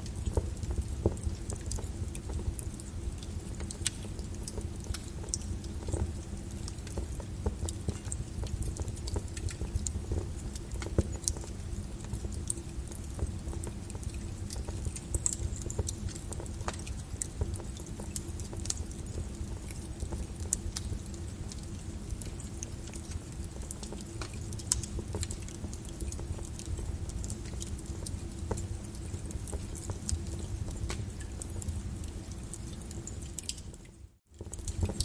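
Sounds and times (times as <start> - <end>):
rain hiss: 0.0 - 33.2
wood fire crackling and popping: 0.0 - 35.0.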